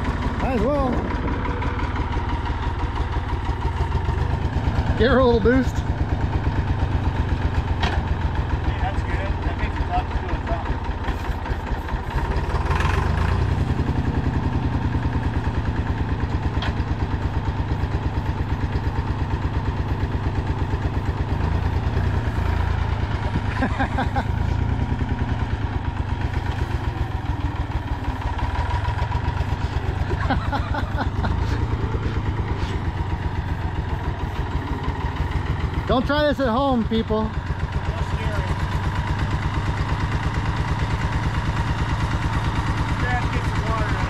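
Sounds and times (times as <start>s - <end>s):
tractor engine running roughly: 0.0s - 44.0s.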